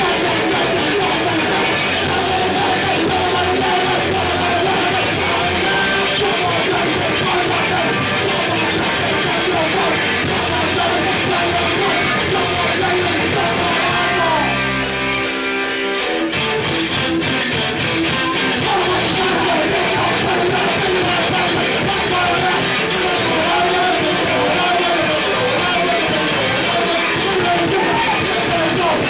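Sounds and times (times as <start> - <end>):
punk band playing live: 0.0 - 29.0.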